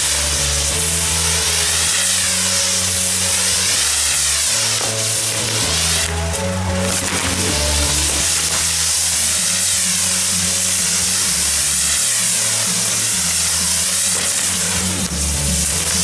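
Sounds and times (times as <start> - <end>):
background music: 0.0 - 16.0
fireworks fizzing hiss: 0.0 - 16.0.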